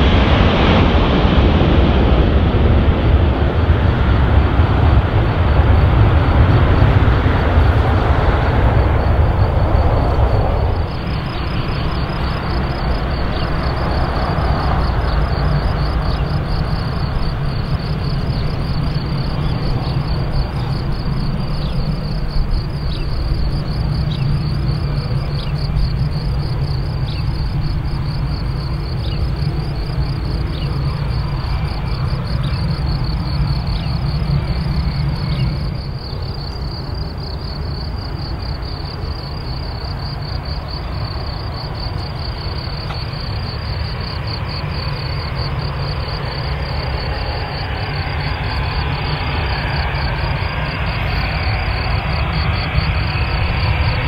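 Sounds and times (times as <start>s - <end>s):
crickets chirping: 0.0s - 54.0s
jet engines rumbling: 0.0s - 54.0s.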